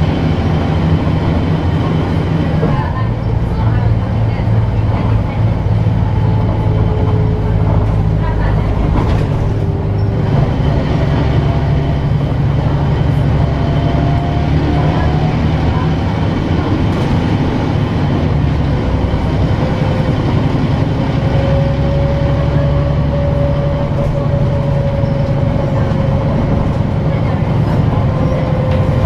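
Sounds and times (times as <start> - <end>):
bus engine drone: 0.0 - 29.0.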